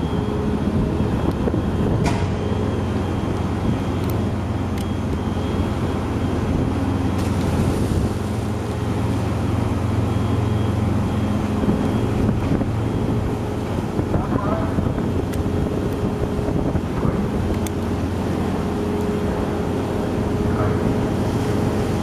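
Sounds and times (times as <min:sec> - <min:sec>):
ferry machinery drone: 0:00.0 - 0:22.0.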